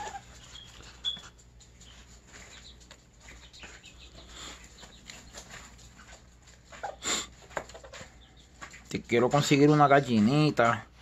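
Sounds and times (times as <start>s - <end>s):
soft chicken clucks: 0.0s - 9.7s
chickens rustling and pecking: 0.0s - 11.0s.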